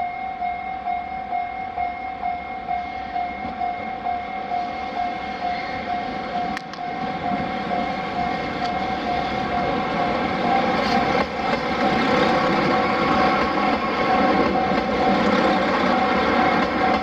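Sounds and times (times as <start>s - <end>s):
level-crossing warning bell: 0.0s - 17.0s
train running noise: 0.8s - 17.0s.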